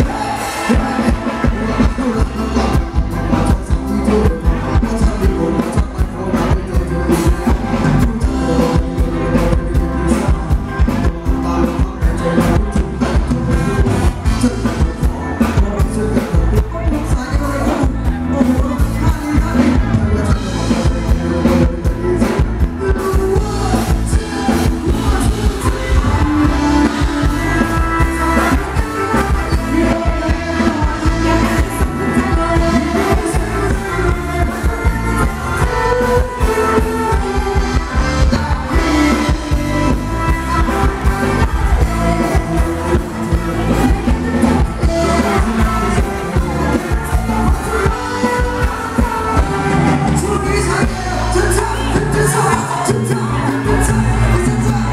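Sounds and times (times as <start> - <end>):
steady drumbeat: 0.0 - 51.8
live band playing dance music: 0.0 - 54.9
person singing: 0.0 - 54.9.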